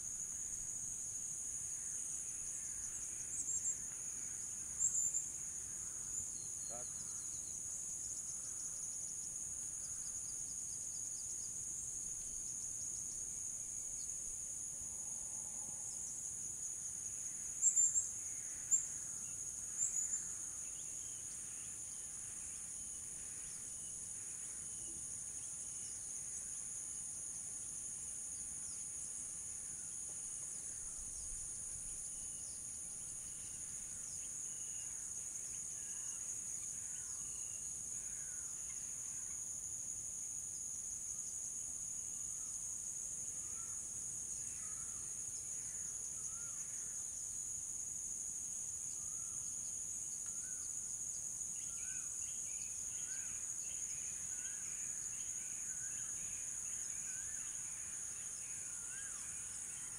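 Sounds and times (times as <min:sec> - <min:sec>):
crickets and cicadas chorus: 0:00.0 - 0:59.9.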